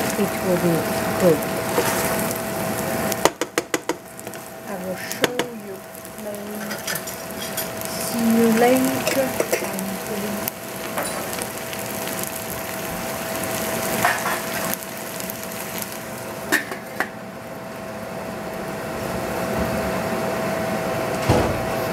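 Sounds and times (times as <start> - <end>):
vegetables sizzling in a pot: 0.0 - 21.9.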